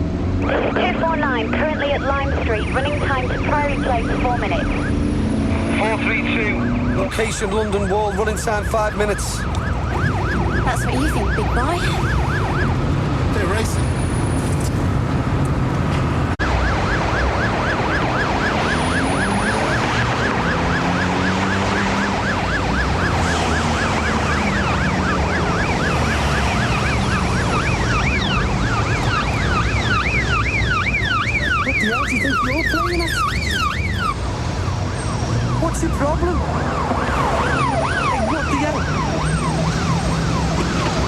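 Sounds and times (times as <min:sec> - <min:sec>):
police sirens yelping: 0:00.0 - 0:15.4, 0:16.4 - 0:41.0
car engines rumbling: 0:00.0 - 0:41.0.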